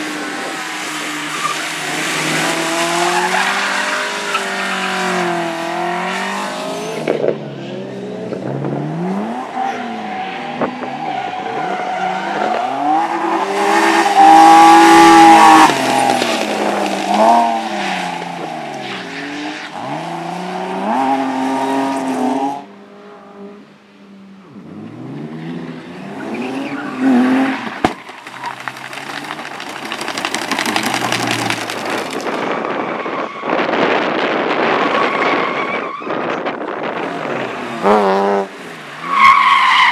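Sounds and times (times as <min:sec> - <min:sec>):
tyres skidding: 0:00.0 - 0:22.4, 0:24.5 - 0:39.9
rally car engines revving: 0:00.0 - 0:39.9.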